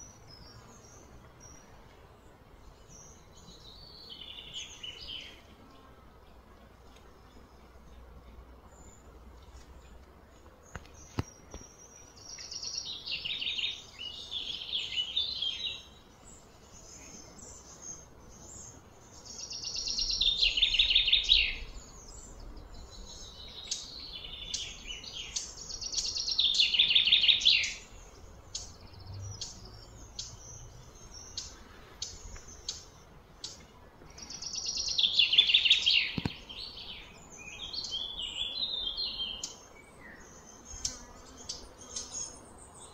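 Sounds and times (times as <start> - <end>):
birds chirping rapidly: 7.2 - 42.9.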